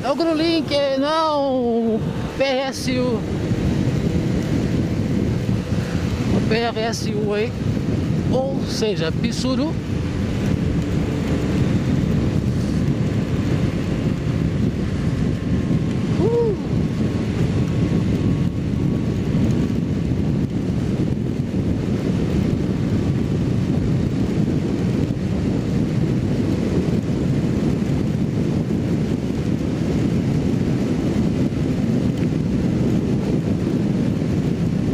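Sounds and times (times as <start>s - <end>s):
motorcycle engine drone: 0.0s - 34.9s
wind rushing over microphone: 0.0s - 34.9s.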